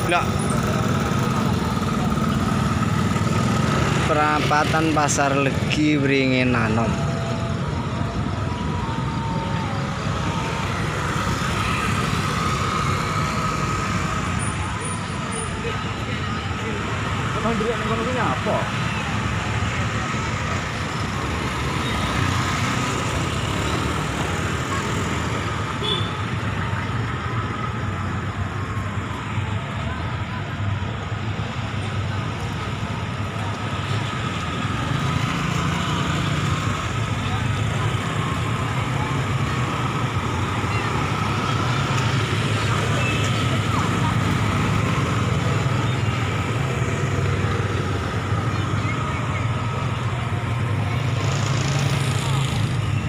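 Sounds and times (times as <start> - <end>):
low rumble of traffic: 0.0 - 53.0.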